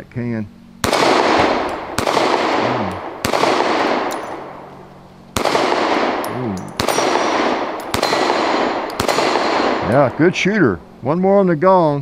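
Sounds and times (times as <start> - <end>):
pistol shots with long echo: 0.8 - 11.0.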